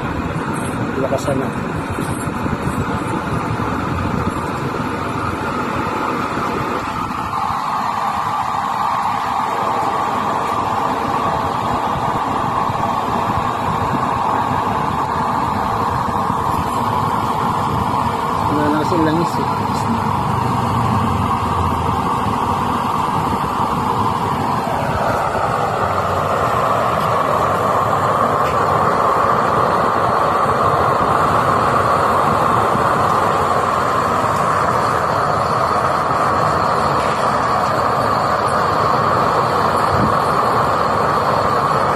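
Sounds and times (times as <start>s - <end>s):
stove blower rushing: 0.0s - 41.9s.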